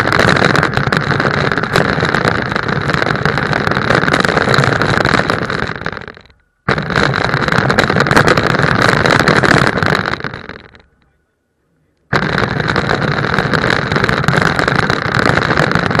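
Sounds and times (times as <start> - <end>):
toy car motor whirring: 0.0 - 10.9, 12.1 - 16.0.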